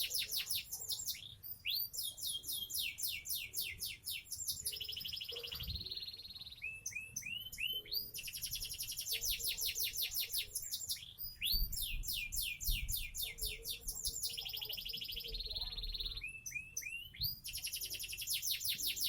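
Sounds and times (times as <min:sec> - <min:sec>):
canary trilling: 0:00.0 - 0:19.0.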